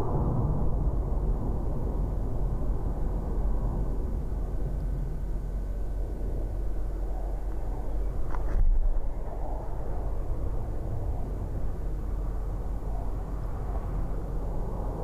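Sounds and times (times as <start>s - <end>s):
jet engines rushing rumble: 0.0s - 15.0s.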